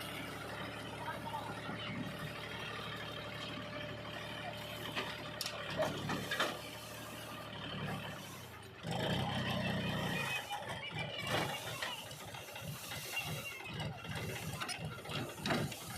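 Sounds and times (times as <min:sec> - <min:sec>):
heavy machinery diesel engine: 0:00.0 - 0:15.9.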